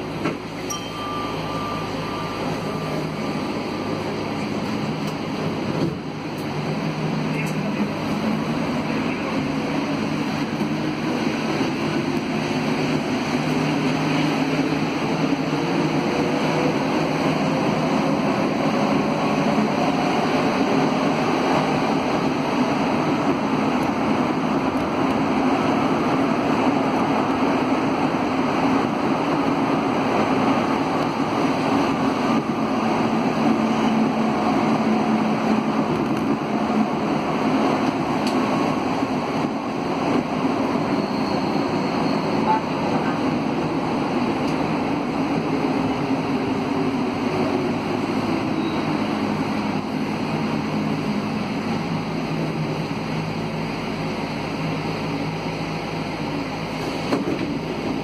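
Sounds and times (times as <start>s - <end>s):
metro train running in tunnel: 0.0s - 58.0s.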